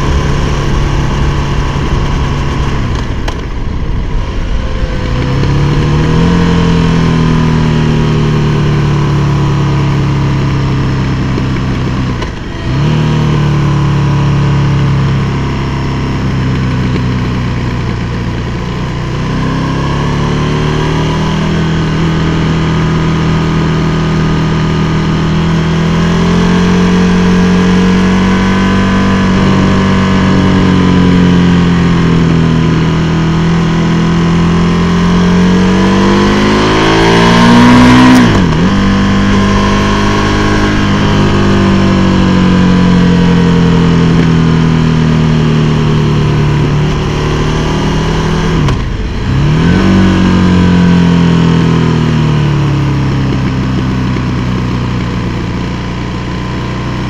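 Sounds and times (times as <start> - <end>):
motorcycle engine revving while riding: 0.0 - 57.0.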